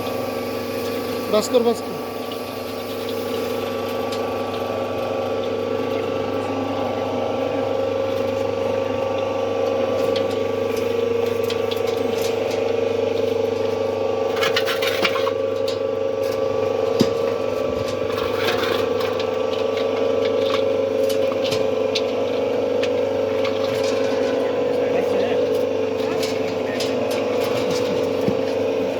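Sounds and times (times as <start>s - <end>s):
motor and gearbox hum: 0.0s - 28.9s.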